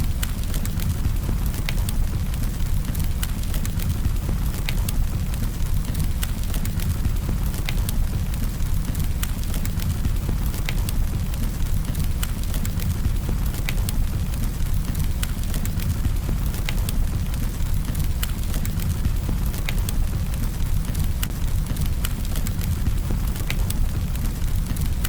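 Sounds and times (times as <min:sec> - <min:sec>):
campfire crackling and popping: 0:00.0 - 0:25.0
low fire rumble: 0:00.0 - 0:25.0.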